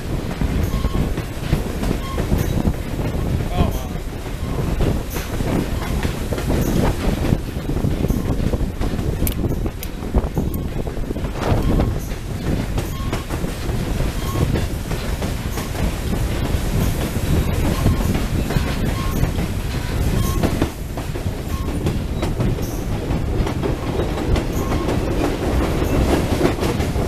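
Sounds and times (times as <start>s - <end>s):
train wheels clickety-clack: 0.0s - 27.0s.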